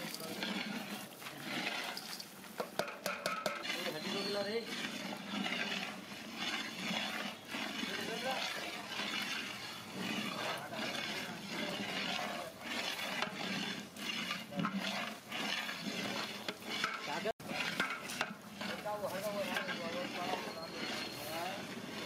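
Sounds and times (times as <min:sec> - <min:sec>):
metal ladle scraping cooking pot: 0:00.0 - 0:22.0.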